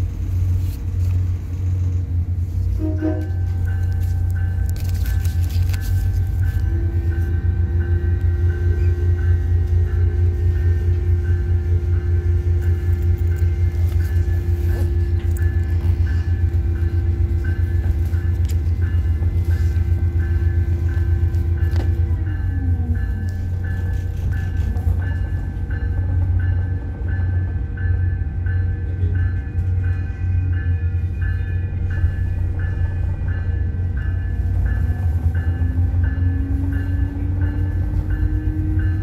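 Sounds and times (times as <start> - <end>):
diesel railcar low rumble: 0.0 - 39.0.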